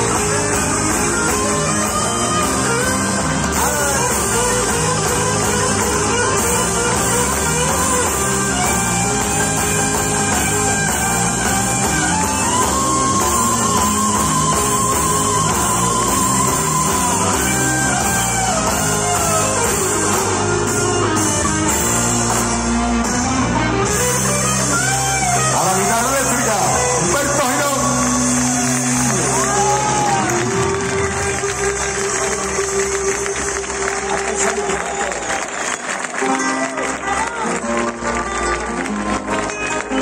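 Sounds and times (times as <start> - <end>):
electric guitar lead with vibrato: 0.0 - 40.0
live rock band playing: 0.0 - 40.0.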